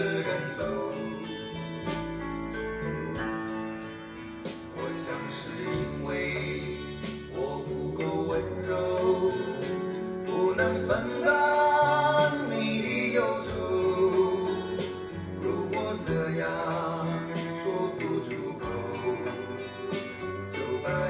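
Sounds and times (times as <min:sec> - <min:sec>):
song with singing voice: 0:00.0 - 0:21.0.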